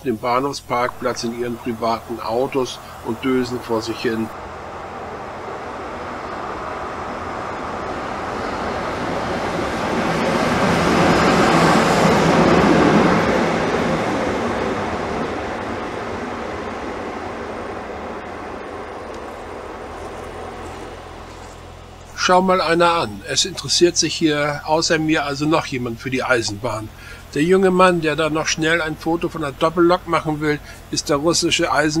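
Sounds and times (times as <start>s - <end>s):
diesel locomotive passing slowly: 0.0s - 32.0s.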